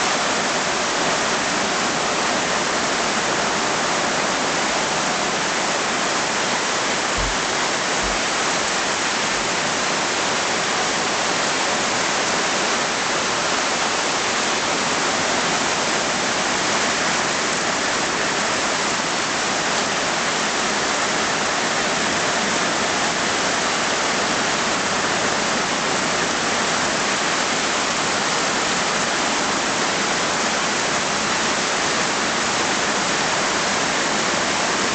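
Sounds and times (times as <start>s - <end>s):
rain hissing on surfaces: 0.0s - 34.9s.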